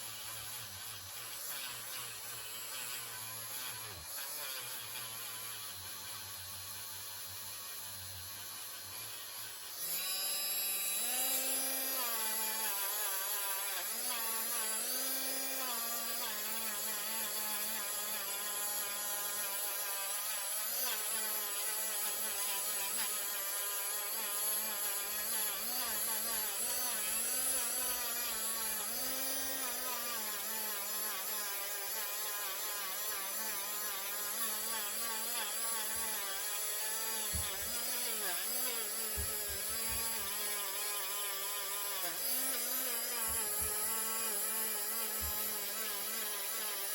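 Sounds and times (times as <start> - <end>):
power tool polishing knife blade: 0.0 - 46.9.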